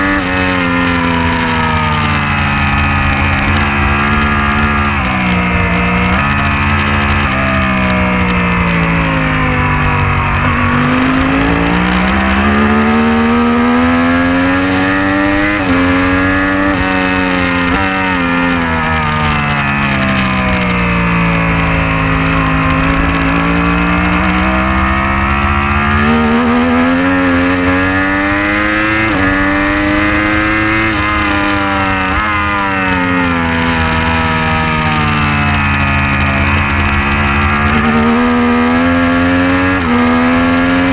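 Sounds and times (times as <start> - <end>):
racing motorcycle engine revving: 0.0 - 40.9
wind rumble: 0.0 - 40.9.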